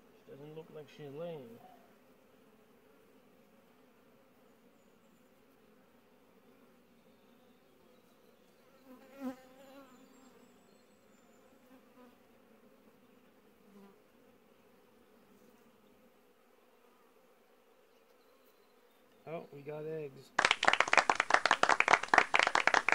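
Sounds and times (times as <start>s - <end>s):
honeybees buzzing: 0.0s - 22.9s.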